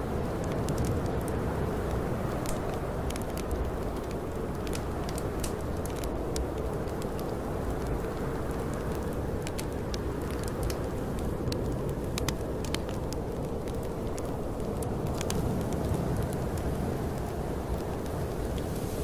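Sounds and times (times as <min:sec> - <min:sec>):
snowstorm wind: 0:00.0 - 0:19.0
wood fire crackling and popping: 0:00.0 - 0:19.0.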